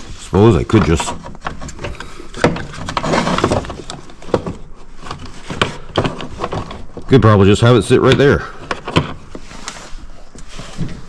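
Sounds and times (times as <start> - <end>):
cable rustling: 0.0 - 11.0.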